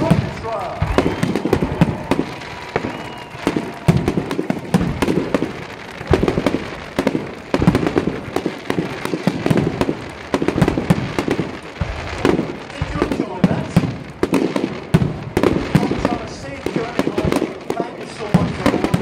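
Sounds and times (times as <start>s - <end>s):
firework crackling: 0.0s - 19.0s
firework shells bursting: 0.0s - 19.0s.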